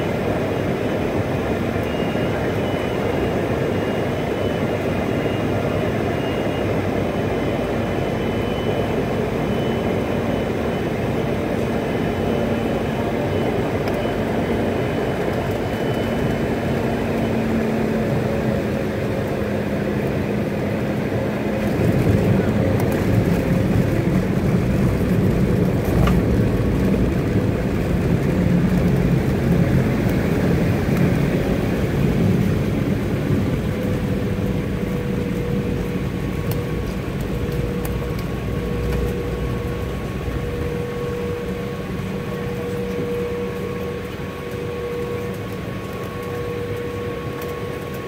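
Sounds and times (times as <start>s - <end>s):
engines and wheels rumbling: 0.0s - 48.0s.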